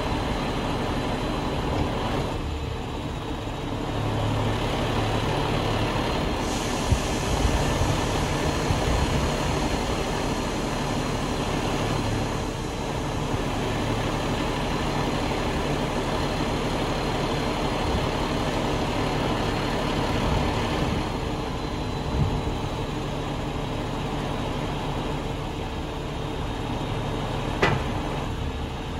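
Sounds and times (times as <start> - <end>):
truck engine running: 0.0 - 28.9.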